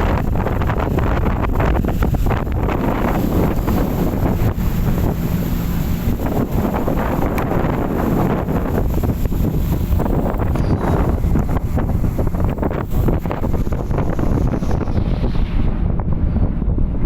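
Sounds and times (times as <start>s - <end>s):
rush of the sea: 0.0s - 17.0s
wind buffeting microphone: 0.0s - 17.0s.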